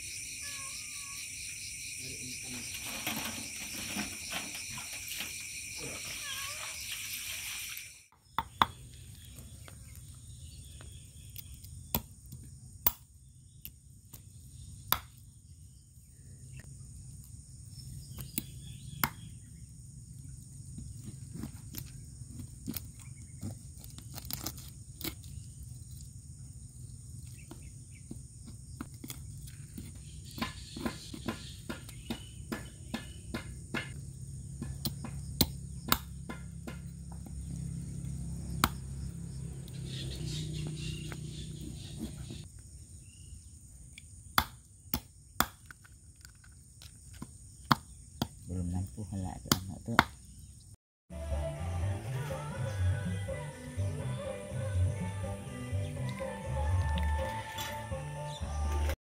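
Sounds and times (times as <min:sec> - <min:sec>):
crickets chirring: 0:00.0 - 0:50.8.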